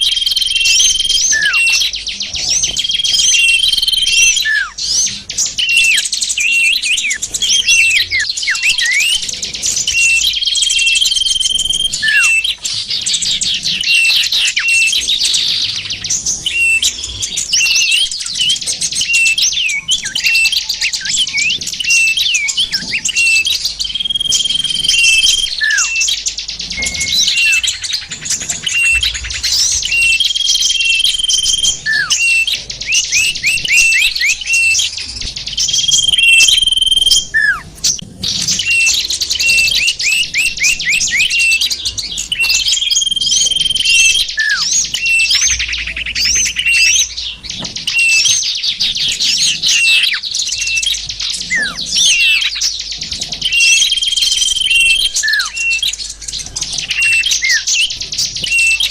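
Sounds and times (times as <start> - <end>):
held whistled bird note: 0.0 - 12.6, 16.0 - 48.6, 53.4 - 56.0
songbirds chirping and twittering: 0.0 - 58.9.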